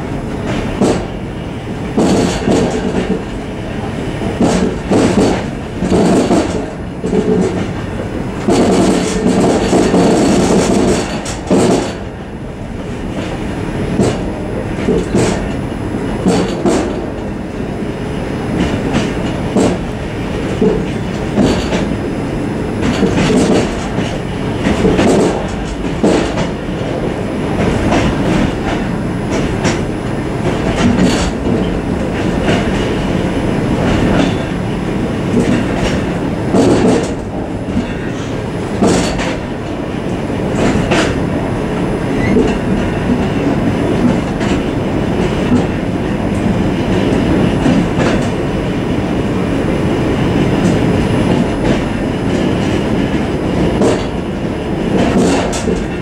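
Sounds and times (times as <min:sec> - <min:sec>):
train wheels rumbling on rail: 0:00.0 - 0:56.0
wheels clacking over rail joints: 0:01.9 - 0:03.4, 0:04.3 - 0:12.2, 0:12.8 - 0:15.6, 0:16.2 - 0:17.3, 0:18.6 - 0:22.0, 0:22.8 - 0:41.3, 0:42.1 - 0:48.4, 0:50.4 - 0:56.0.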